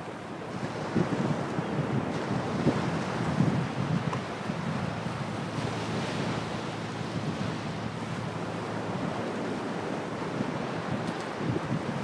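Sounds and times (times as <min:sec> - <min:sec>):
surf washing: 0:00.0 - 0:12.0
wind on microphone: 0:00.0 - 0:12.0.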